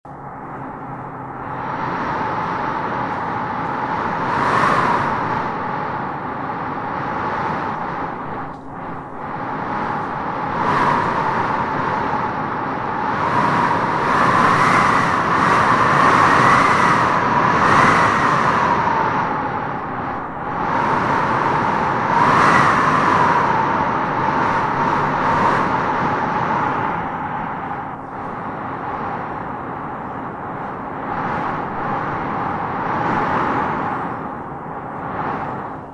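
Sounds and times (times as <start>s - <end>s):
storm wind gusting and howling: 0.1s - 35.9s.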